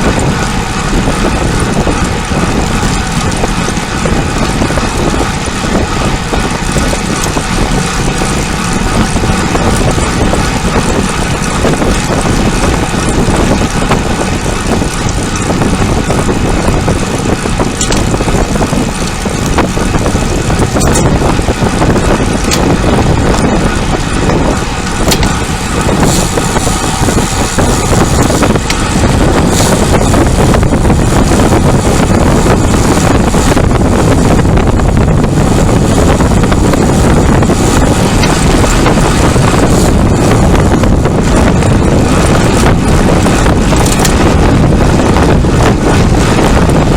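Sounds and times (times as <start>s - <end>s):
bicycle road noise: 0.0s - 46.9s
wind rush over microphone: 0.0s - 46.9s.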